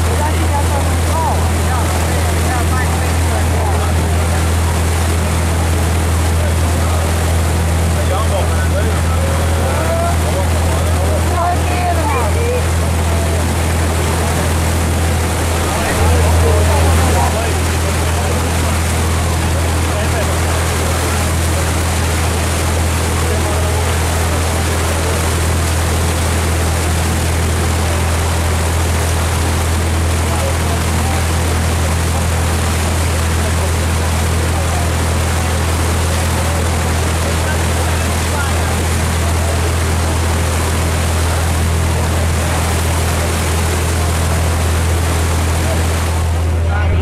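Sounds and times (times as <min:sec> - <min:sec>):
motorboat engine humming: 0:00.0 - 0:47.0
rushing water: 0:00.0 - 0:47.0
wind: 0:00.0 - 0:47.0.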